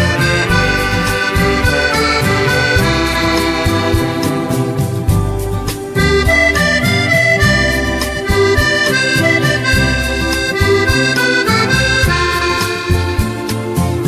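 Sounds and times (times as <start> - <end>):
accordion melody: 0.0 - 14.0
pulsing bass: 0.0 - 14.0.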